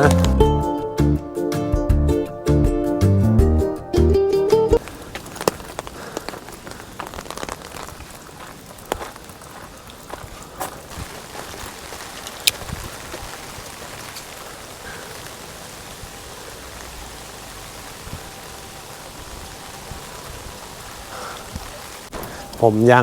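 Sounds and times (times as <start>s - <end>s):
steady rain: 0.0s - 0.5s, 4.8s - 23.0s.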